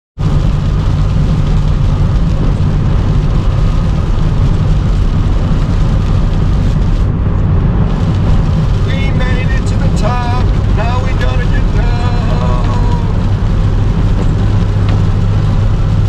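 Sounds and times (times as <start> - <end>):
car driving through strong wind: 0.2 - 16.0.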